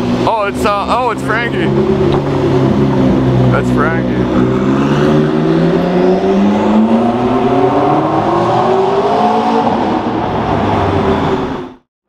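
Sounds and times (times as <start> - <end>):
car engine accelerating: 0.0 - 11.8.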